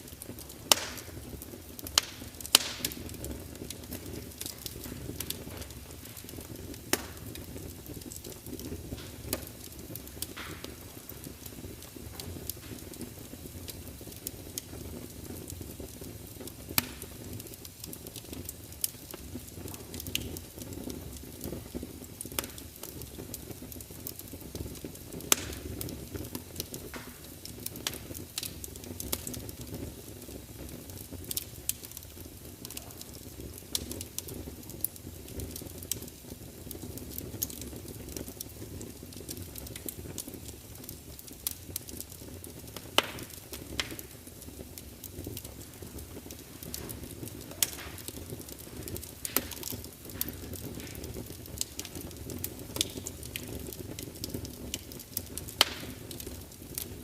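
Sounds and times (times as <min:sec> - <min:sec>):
fire crackling and popping: 0:00.0 - 0:57.0
low rumble of fire: 0:00.0 - 0:57.0.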